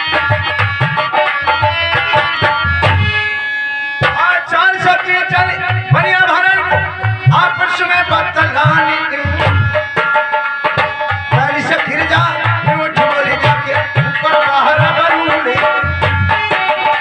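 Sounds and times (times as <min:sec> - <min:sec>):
hand drum rhythm: 0:00.0 - 0:03.2, 0:05.4 - 0:17.0
held instrumental melody: 0:00.0 - 0:17.0.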